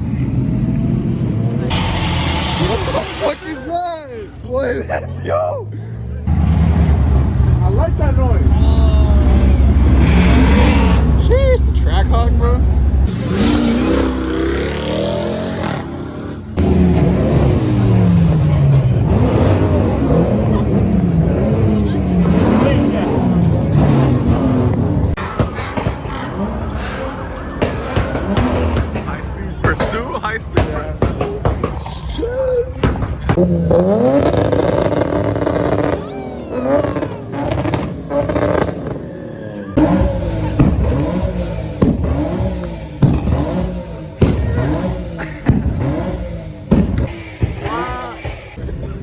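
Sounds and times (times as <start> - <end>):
car engine revving: 0.0 - 31.8, 32.9 - 47.2.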